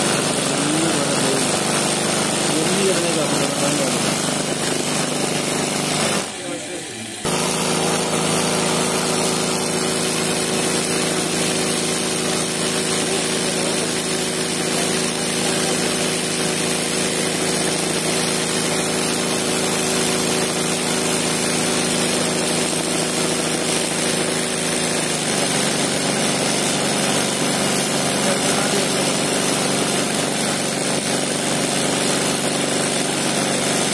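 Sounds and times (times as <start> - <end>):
sewing machine running: 0.0 - 33.9.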